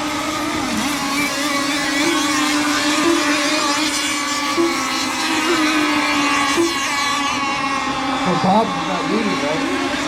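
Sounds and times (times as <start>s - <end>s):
model boat motors whining: 0.0s - 10.0s.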